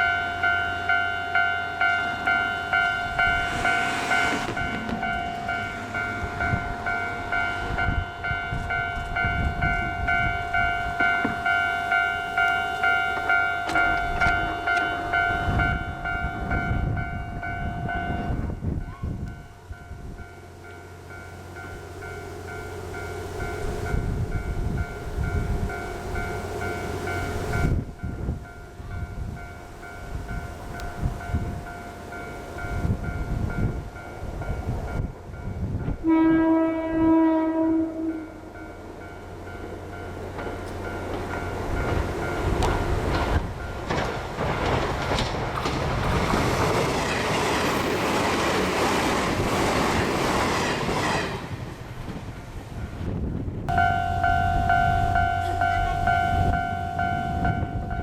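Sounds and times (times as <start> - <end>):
level-crossing warning bell ringing: 0.0 - 45.3, 53.7 - 58.0
train rumbling past: 0.0 - 58.0.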